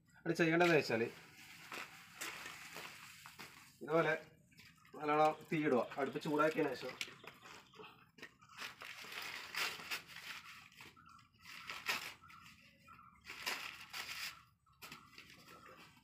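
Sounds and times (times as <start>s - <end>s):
dry kindling crackling: 0.4s - 16.0s.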